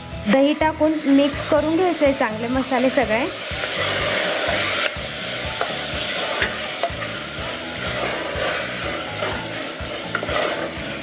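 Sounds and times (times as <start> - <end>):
sizzling hiss from hot pan: 0.0 - 11.0
wooden spatula scraping a pan: 1.1 - 11.0.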